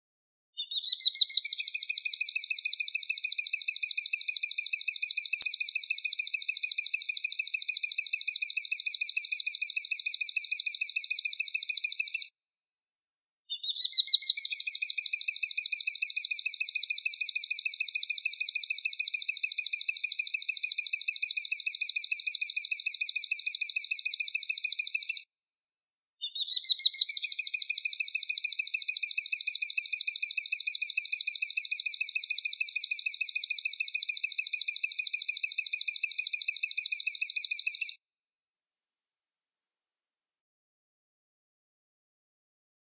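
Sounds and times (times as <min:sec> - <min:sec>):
bird of prey calling: 0:00.6 - 0:12.3, 0:13.5 - 0:25.2, 0:26.2 - 0:38.0.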